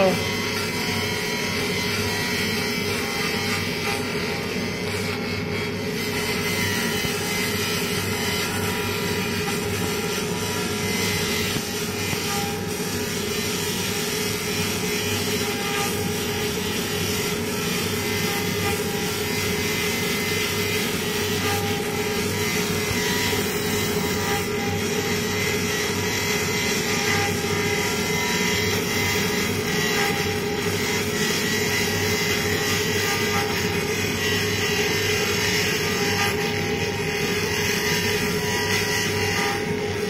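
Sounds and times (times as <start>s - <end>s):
laser cleaner buzzing hiss: 0.0s - 40.0s
machine hum: 0.0s - 40.0s.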